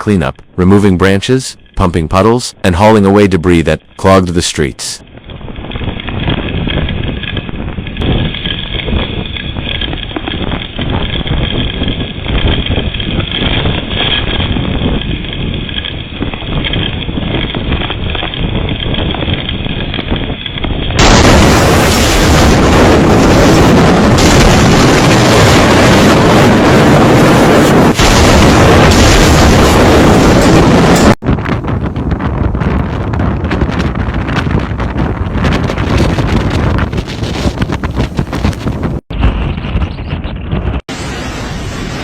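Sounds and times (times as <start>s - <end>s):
wind buffeting microphone: 4.6s - 42.0s.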